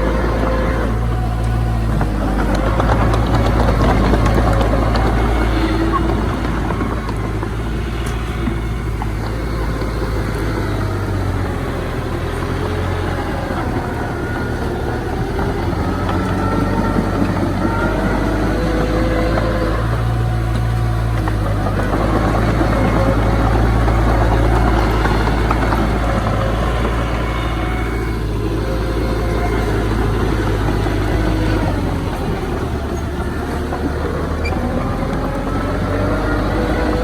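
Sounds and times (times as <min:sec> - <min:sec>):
heavy machinery engine running: 0:00.0 - 0:37.0.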